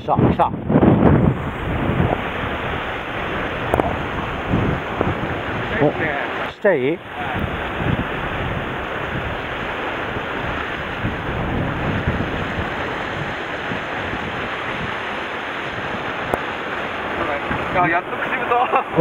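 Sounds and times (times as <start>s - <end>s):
waves washing against rocks: 0.0s - 19.0s
wind noise on microphone: 0.0s - 19.0s.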